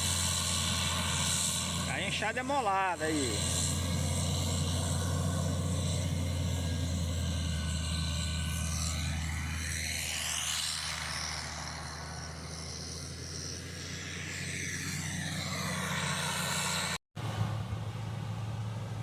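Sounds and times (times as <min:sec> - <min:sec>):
heavy machine engine humming: 0:00.0 - 0:19.0.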